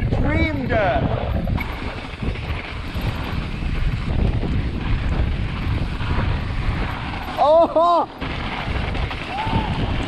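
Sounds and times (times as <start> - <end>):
bike tyres rolling through dirt: 0.0 - 10.0
wind buffeting microphone: 0.0 - 10.0.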